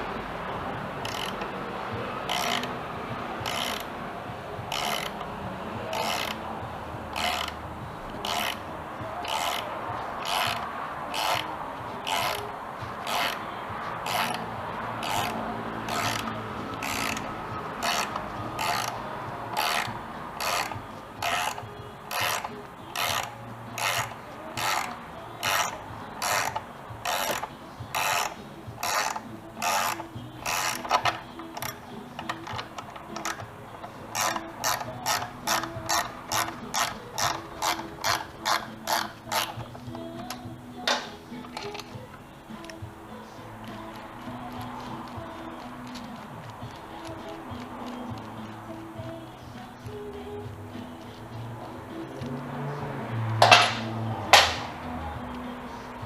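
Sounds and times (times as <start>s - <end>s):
ratchet wrench clicking: 0.9s - 1.6s, 2.2s - 2.8s, 3.4s - 4.0s, 4.6s - 52.4s, 53.2s - 56.0s.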